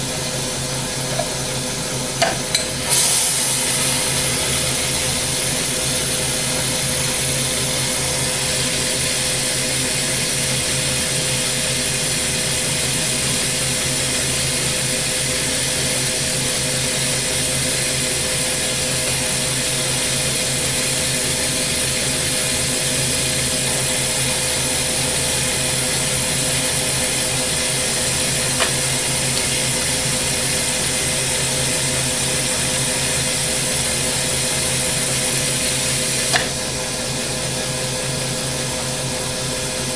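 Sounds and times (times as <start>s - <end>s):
steady hum: 0.0s - 13.3s, 16.6s - 39.9s
glassworking torch hissing: 0.0s - 39.9s.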